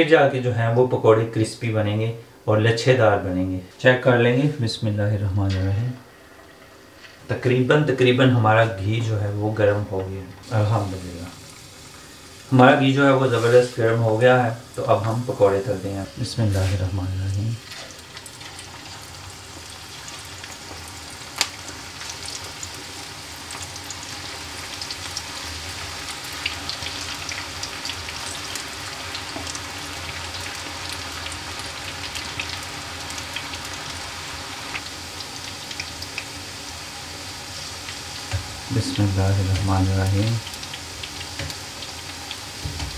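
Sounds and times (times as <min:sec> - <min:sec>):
batter frying in hot oil: 0:05.5 - 0:42.9.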